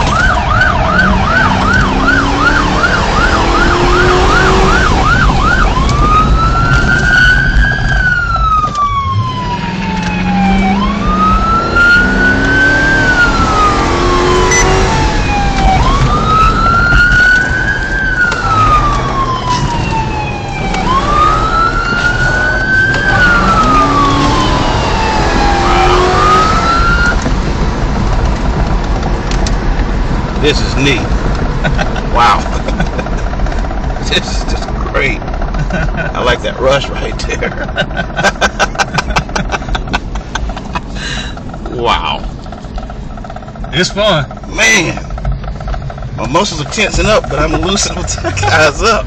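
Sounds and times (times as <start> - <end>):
police siren yelping and wailing: 0.0 - 27.5, 30.4 - 36.4, 37.1 - 49.0
car engine and road noise: 0.0 - 49.0.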